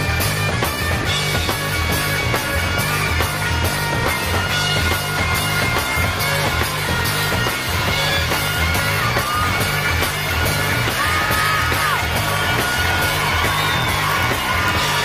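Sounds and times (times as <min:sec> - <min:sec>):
electric guitar: 0:00.0 - 0:15.0
hard rock music: 0:00.0 - 0:15.0.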